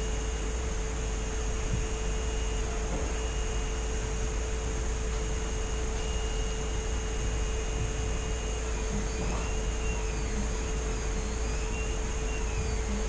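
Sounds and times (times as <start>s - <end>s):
constant mid-pitched tone: 0.0s - 13.0s
steady hum and hiss: 0.0s - 13.0s.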